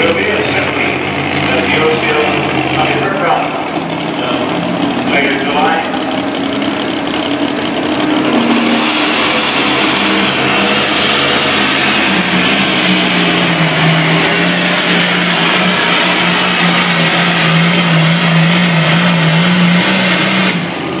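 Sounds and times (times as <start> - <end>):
tractor engine at full throttle: 0.0 - 21.0.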